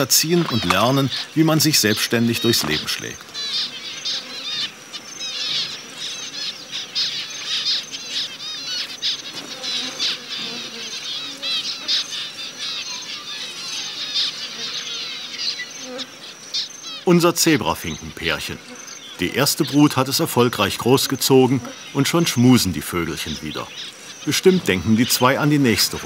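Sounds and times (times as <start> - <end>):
finches chirping: 0.0 - 26.0.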